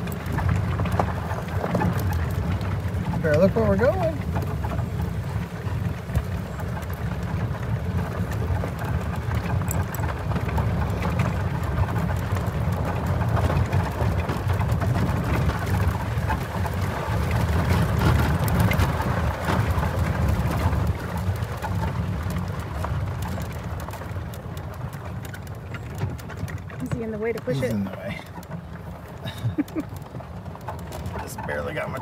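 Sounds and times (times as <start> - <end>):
tyres rumbling on gravel: 0.0 - 32.0
wind buffeting microphone: 0.0 - 32.0.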